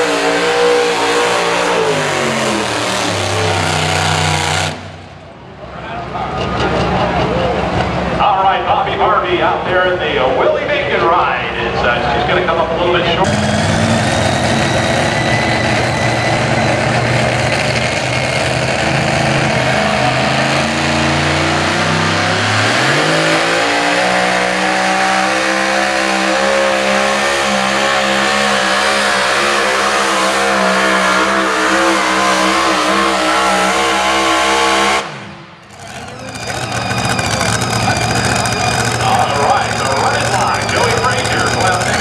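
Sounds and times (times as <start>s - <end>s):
racing engine at full throttle: 0.0s - 42.0s.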